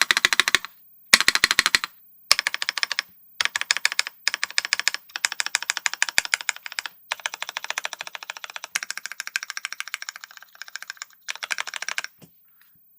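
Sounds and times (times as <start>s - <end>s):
fast typing on mechanical keyboard: 0.0s - 12.2s.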